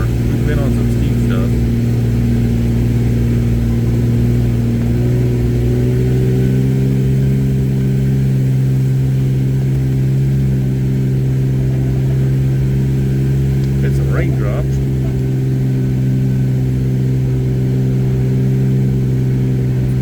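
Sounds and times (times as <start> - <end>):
car engine under load: 0.0 - 20.0.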